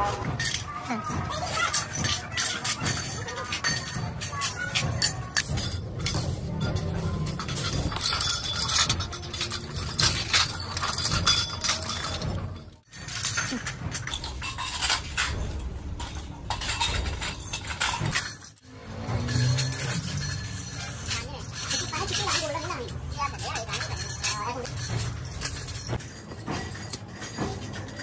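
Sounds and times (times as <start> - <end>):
metal springs jangling and clinking: 0.0 - 28.0.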